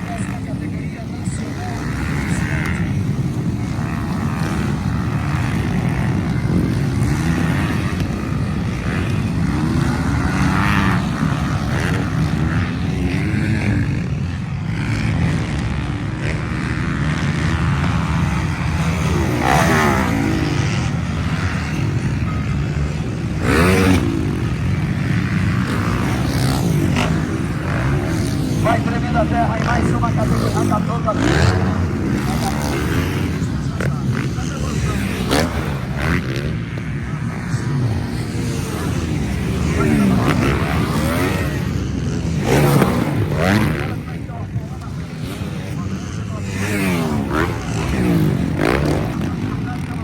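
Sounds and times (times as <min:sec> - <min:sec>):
motocross bike engines revving: 0:00.0 - 0:50.0
motorbike passing close: 0:00.0 - 0:50.0.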